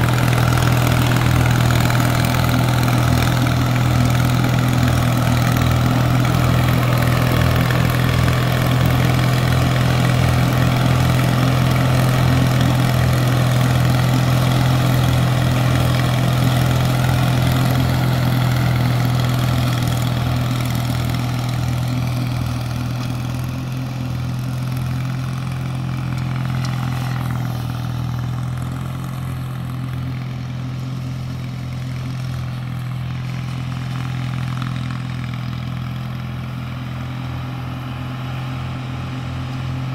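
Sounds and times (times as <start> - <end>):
tractor mower running: 0.0 - 39.9.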